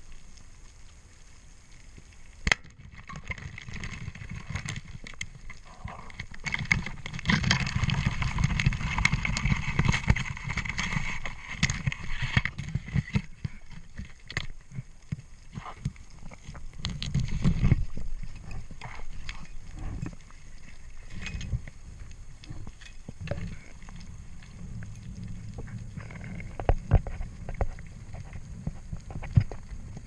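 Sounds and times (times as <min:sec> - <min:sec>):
underwater crackling and clicks: 0:00.0 - 0:30.0
water rushing and bubbling: 0:00.0 - 0:30.0.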